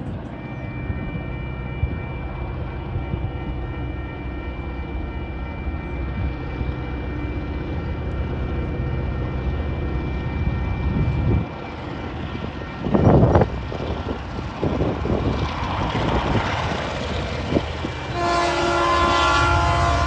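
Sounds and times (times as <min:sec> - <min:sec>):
diesel locomotive engine rumble: 0:00.0 - 0:20.0
steady high whine: 0:00.0 - 0:20.0.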